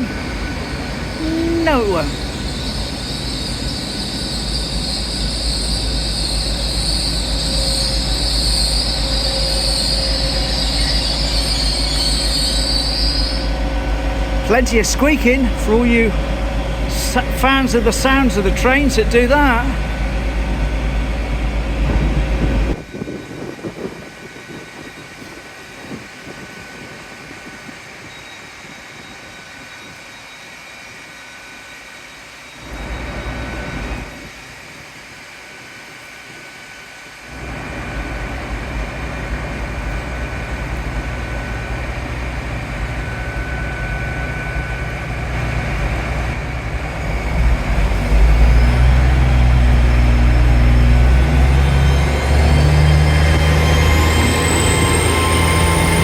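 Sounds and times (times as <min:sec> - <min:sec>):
train engine: 0:00.0 - 0:56.0.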